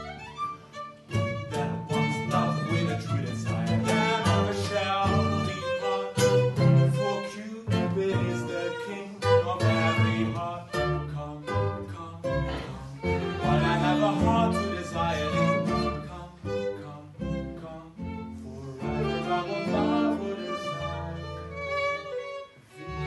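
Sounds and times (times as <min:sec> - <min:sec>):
acoustic guitar: 0:00.0 - 0:23.0
bowed violin melody: 0:00.0 - 0:23.0
double bass: 0:00.0 - 0:23.0.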